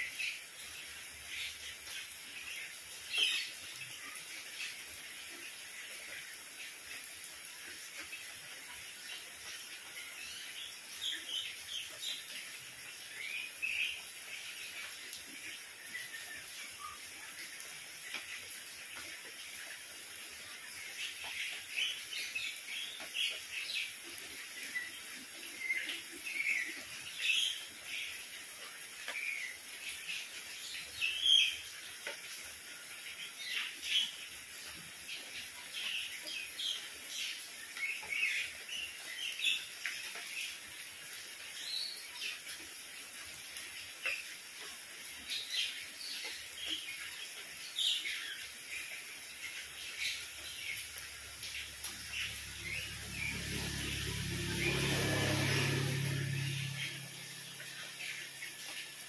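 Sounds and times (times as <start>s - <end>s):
rain on paving and leaves: 0.0s - 59.0s.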